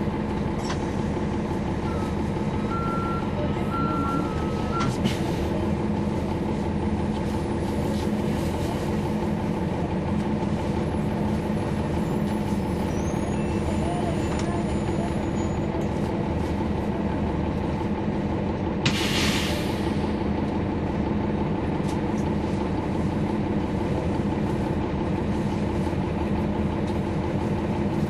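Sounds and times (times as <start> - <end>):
bus diesel engine humming: 0.0 - 28.0.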